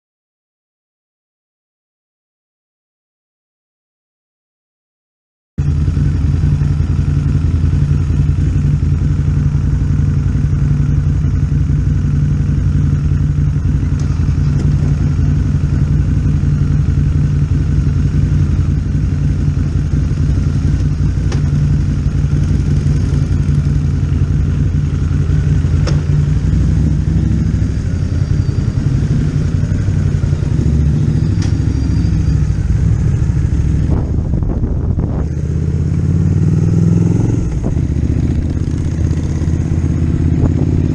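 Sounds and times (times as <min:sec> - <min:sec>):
motorcycle engine running: 0:05.6 - 0:40.9.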